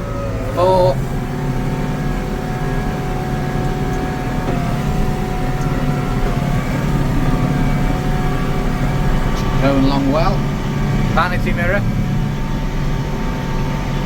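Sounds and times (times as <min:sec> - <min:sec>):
thin steady whine: 0:00.0 - 0:14.0
tractor diesel engine running: 0:00.0 - 0:14.0.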